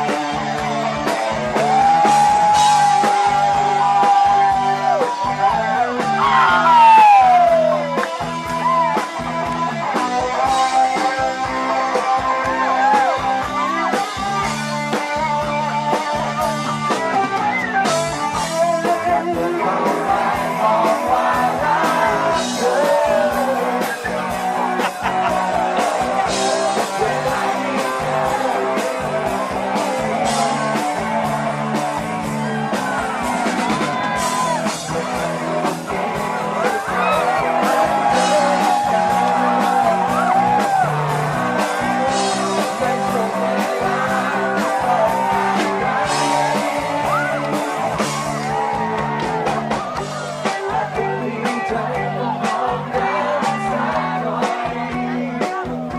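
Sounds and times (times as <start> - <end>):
person singing: 0.0 - 16.9, 17.9 - 55.9
live rock band: 0.0 - 55.9.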